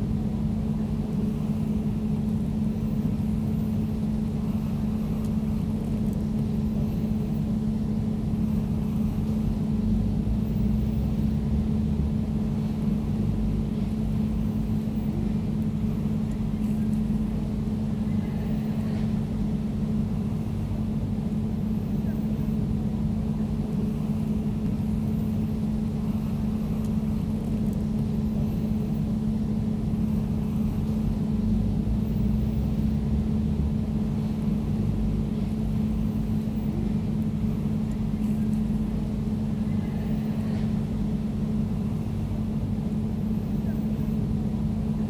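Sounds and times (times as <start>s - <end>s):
air conditioner humming: 0.0s - 45.0s.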